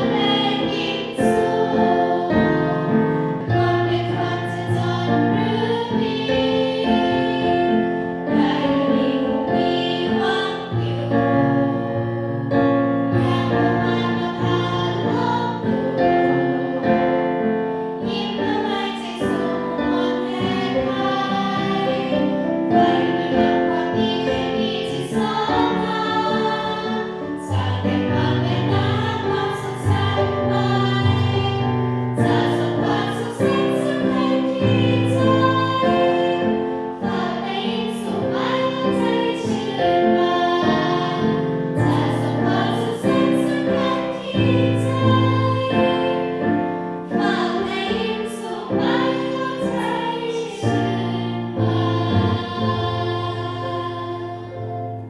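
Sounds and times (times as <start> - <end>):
girls' choir singing: 0.0 - 11.8, 13.0 - 55.0.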